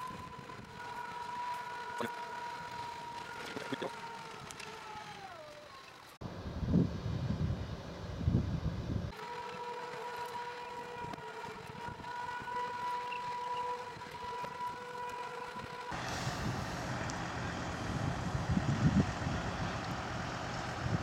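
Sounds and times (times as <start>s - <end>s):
wind buffeting microphone: 0.0s - 5.4s, 6.2s - 9.2s, 11.0s - 21.0s
crane whine: 0.0s - 21.0s
engine hum: 0.0s - 21.0s.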